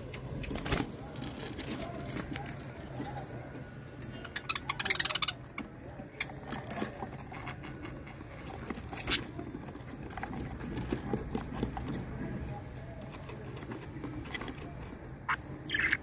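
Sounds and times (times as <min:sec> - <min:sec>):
budgies clicking and scratching: 0:00.0 - 0:16.0.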